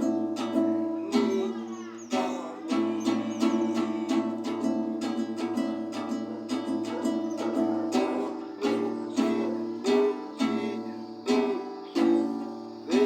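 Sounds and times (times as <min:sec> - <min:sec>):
strummed guitar: 0:00.0 - 0:13.0.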